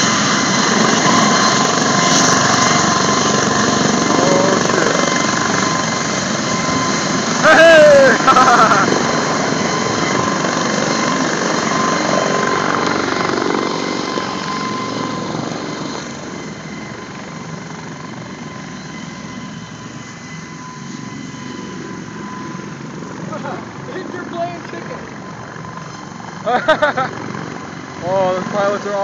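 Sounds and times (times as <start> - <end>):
helicopter rotor noise: 0.0 - 29.0
helicopter turbine whine: 0.0 - 29.0.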